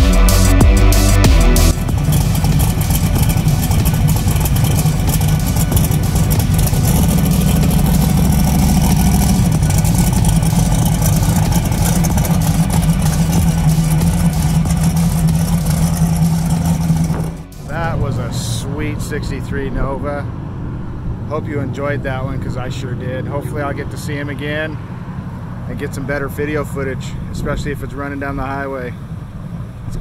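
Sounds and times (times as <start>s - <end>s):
car engine running at low revs: 0.0s - 30.0s.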